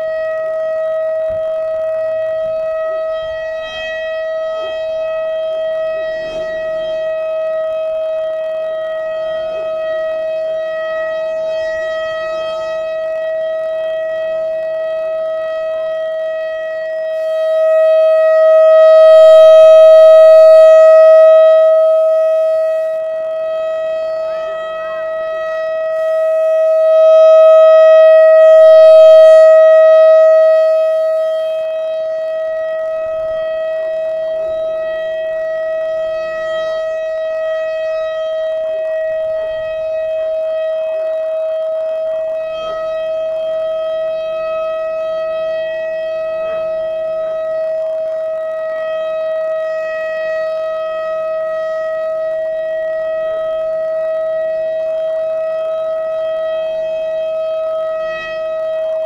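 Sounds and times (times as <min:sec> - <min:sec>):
electronic warning siren: 0:00.0 - 0:59.0.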